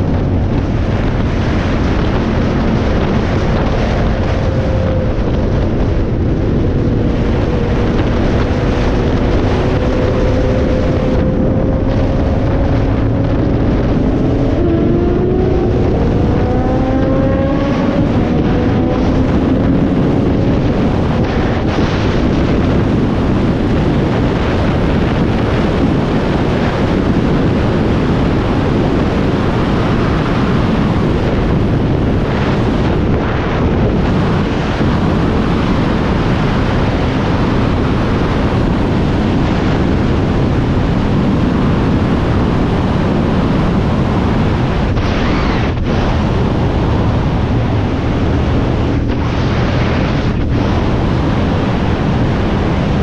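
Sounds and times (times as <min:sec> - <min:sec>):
motorcycle engine running: 0:00.0 - 0:44.9
wind rushing on microphone: 0:00.0 - 0:53.0.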